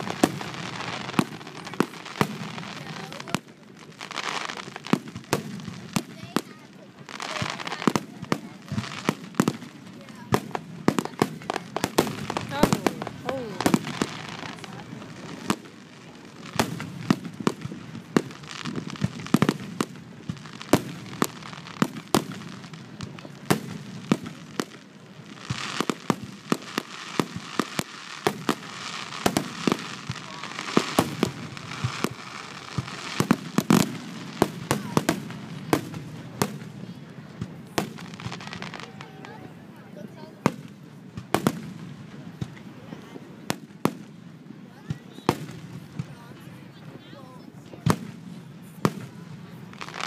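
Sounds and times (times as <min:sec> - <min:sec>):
firework hiss: 0:00.0 - 0:36.8, 0:37.4 - 0:39.4, 0:47.8 - 0:50.0.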